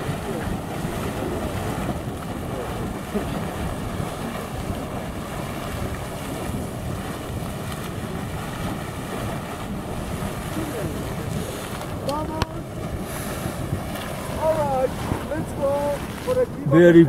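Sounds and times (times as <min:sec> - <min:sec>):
geyser boiling and gushing: 0:00.0 - 0:17.0
wind buffeting microphone: 0:00.0 - 0:17.0.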